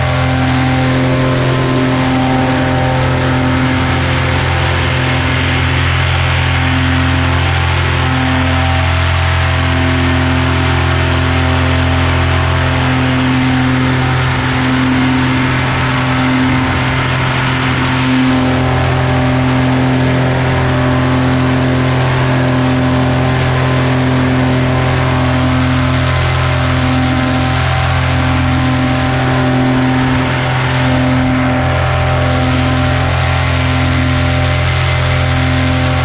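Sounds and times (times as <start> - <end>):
paramotor engine droning: 0.0 - 36.0.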